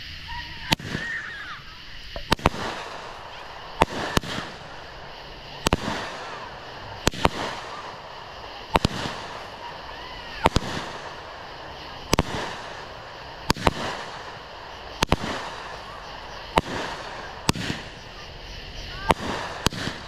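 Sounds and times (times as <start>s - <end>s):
firework hiss: 0.0s - 20.0s
firework reports: 0.0s - 20.0s.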